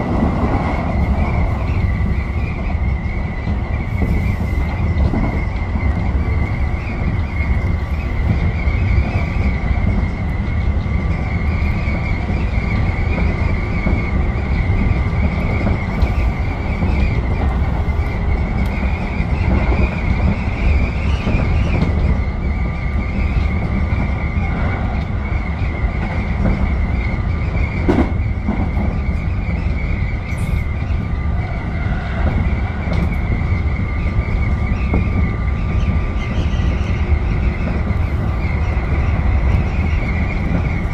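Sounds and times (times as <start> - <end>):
high steady squeal: 0.0 - 40.9
train wheels rumbling on rail: 0.0 - 40.9.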